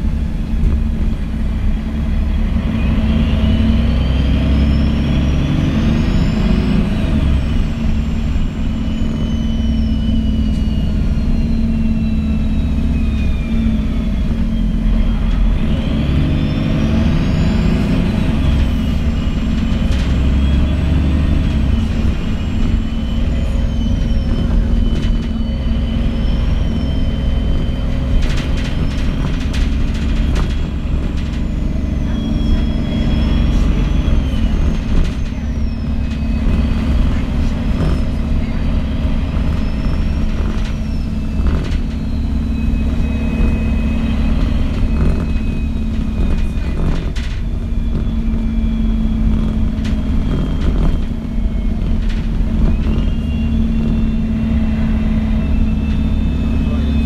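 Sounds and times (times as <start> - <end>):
diesel engine rumble: 0.0 - 57.0
gearbox whine: 0.0 - 57.0.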